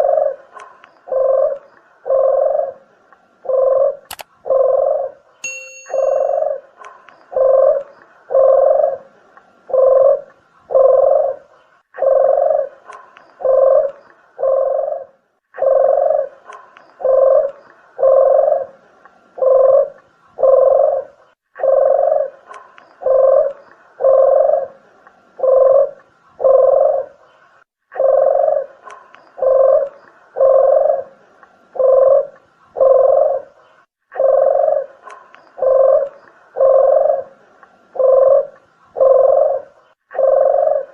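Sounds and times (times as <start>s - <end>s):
dove cooing: 0.0s - 5.2s, 5.9s - 27.2s, 27.9s - 40.9s.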